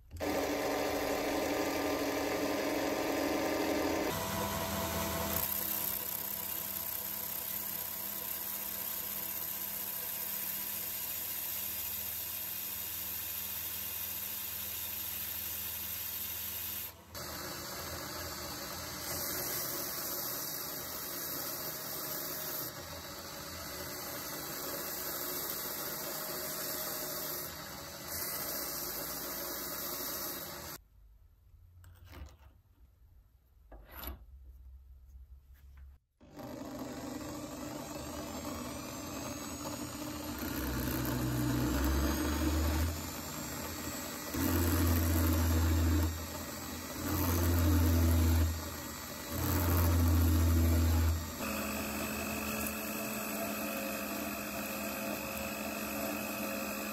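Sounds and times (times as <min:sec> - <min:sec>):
drill motor hum: 0:00.0 - 0:30.8, 0:36.2 - 0:56.9.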